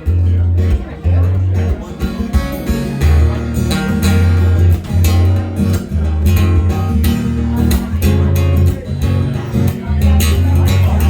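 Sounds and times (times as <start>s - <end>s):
bass guitar notes: 0.0s - 11.0s
guitar strumming chords: 0.0s - 11.0s.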